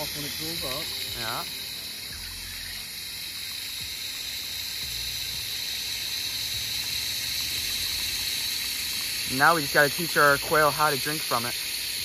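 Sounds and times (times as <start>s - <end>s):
water hissing into a plastic bucket: 0.0s - 12.0s.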